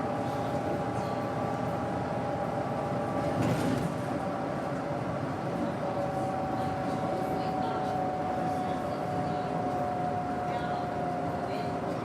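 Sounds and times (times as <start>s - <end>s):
bus engine whine: 0.0s - 12.0s.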